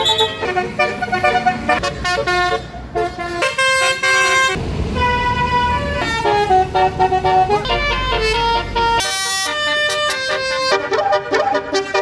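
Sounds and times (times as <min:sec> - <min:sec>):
bus engine rumble: 0:00.0 - 0:12.0
multi-tone bus air horn melody: 0:00.0 - 0:12.0.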